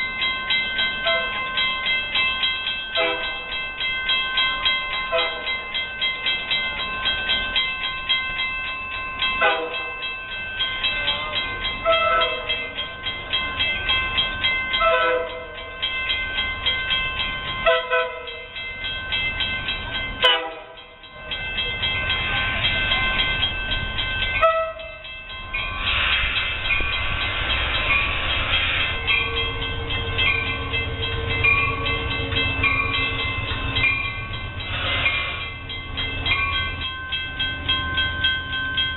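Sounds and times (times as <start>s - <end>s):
train passing on rails: 0.0s - 38.9s.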